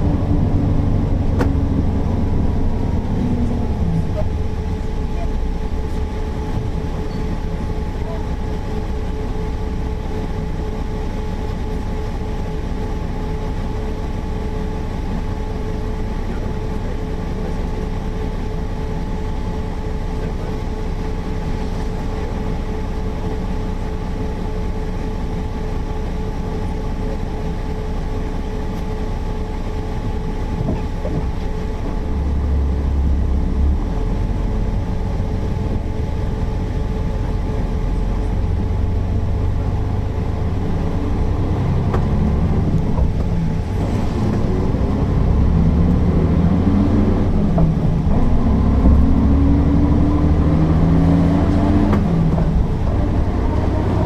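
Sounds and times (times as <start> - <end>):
bus engine drone: 0.0 - 54.0
constant whine: 0.0 - 54.0.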